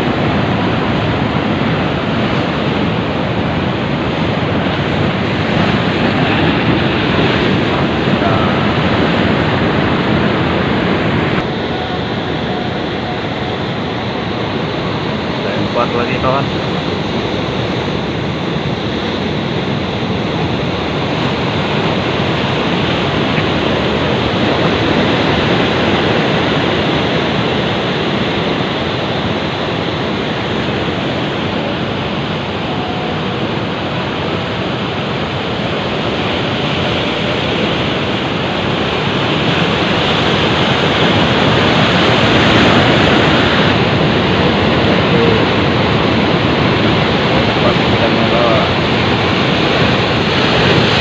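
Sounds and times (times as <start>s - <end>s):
sea waves: 0.0s - 51.0s
wind: 0.0s - 51.0s.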